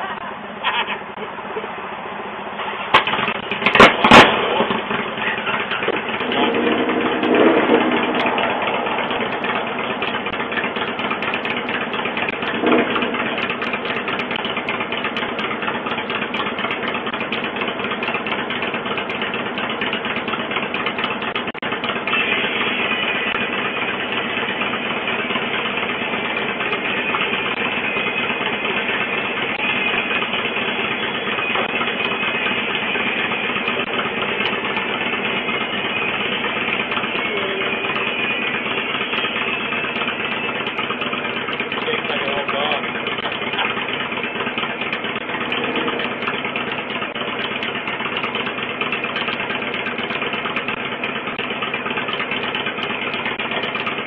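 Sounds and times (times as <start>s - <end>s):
motorcycle engines idling: 0.0s - 54.0s.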